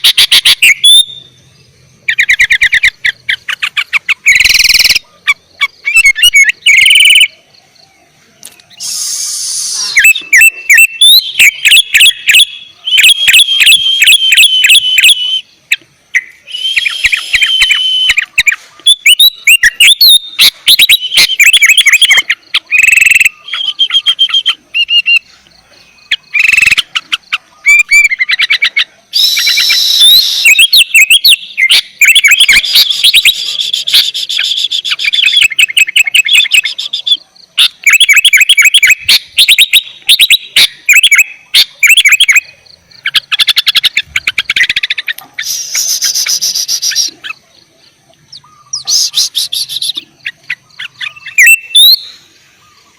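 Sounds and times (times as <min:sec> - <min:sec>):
bird singing chirps and warbles: 0:00.0 - 0:08.9, 0:09.6 - 0:52.9.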